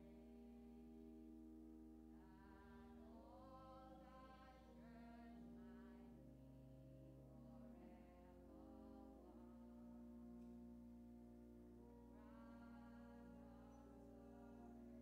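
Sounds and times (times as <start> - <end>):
faint hymn singing: 0.0 - 15.0.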